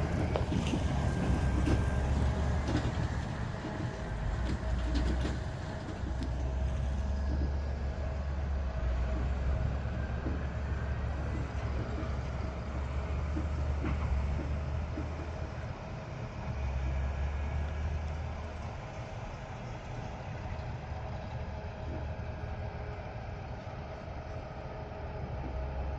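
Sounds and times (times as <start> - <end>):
diesel engines rumbling: 0.0 - 25.9.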